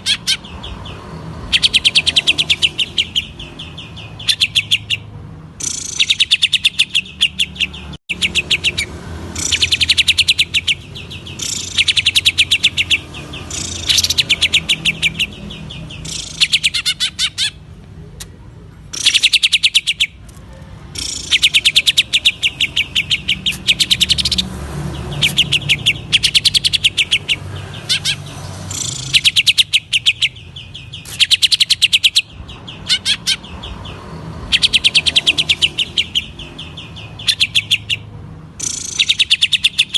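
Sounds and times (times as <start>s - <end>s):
bird singing rattling bursts: 0.0s - 17.7s, 18.9s - 39.9s.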